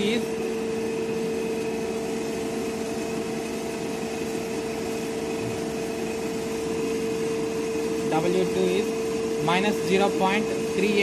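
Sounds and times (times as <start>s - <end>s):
electric motor humming: 0.0s - 11.0s.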